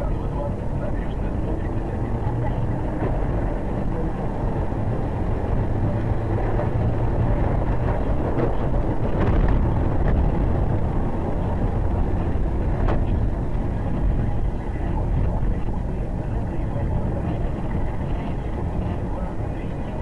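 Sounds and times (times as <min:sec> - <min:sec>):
car engine: 0:00.0 - 0:20.0
wet tyre rumble: 0:00.0 - 0:20.0.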